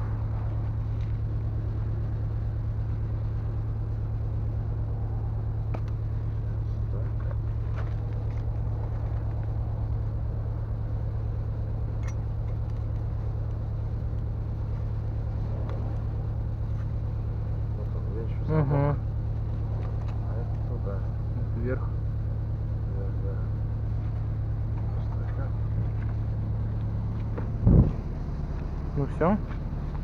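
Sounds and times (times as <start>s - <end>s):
pulsing machine hum: 0.0s - 30.0s.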